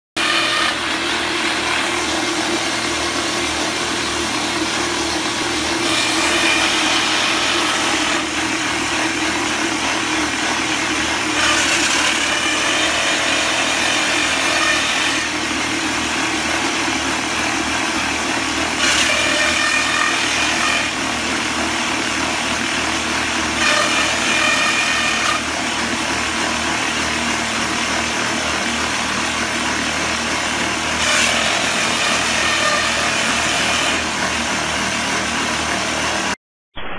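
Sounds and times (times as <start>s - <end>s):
loud machine drone: 0.1s - 36.9s
rock drill grinding: 0.4s - 36.3s.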